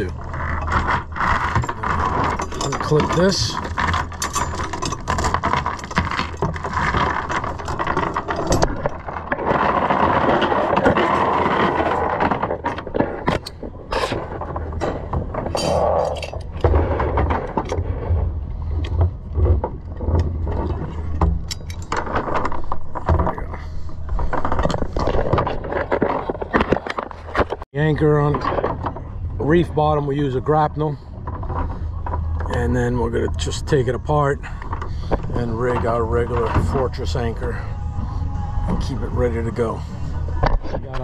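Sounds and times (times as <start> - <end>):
anchor chain clinks and scrapes: 0.0 - 41.0.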